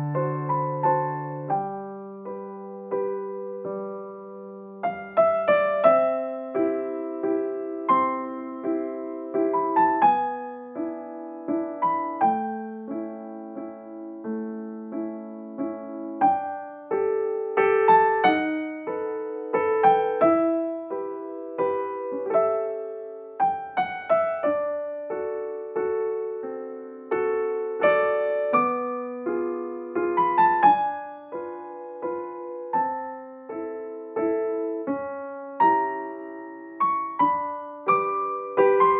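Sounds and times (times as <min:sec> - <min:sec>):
soft solo piano: 0:00.0 - 0:38.9.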